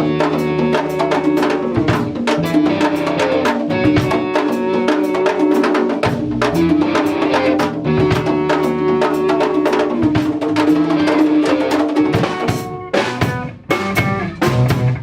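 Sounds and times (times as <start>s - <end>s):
held pitched tones: 0.0s - 14.6s
live band playing loud: 0.0s - 15.0s.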